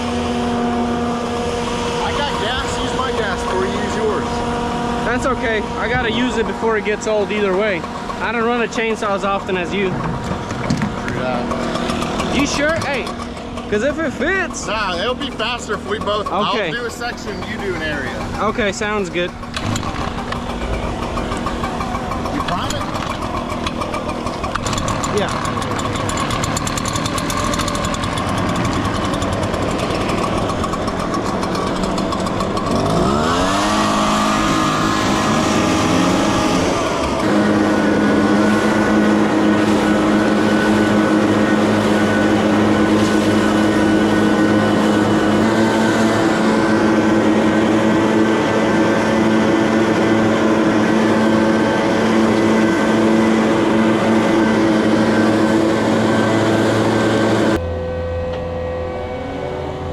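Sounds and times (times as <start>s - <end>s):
chainsaw engine revving: 0.0s - 57.6s.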